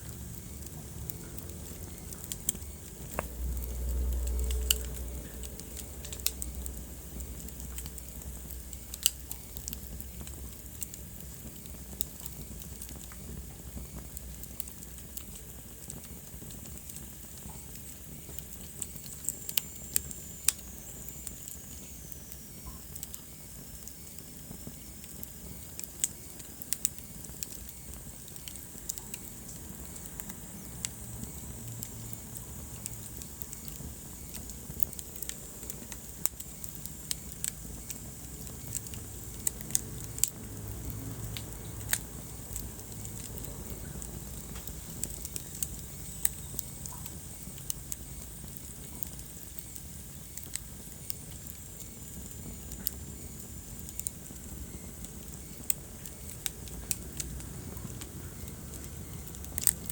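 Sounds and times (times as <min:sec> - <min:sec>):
fire popping and snapping: 0:00.0 - 0:59.9
low rumble of flames: 0:00.0 - 0:59.9
wood fire crackling: 0:00.0 - 0:59.9.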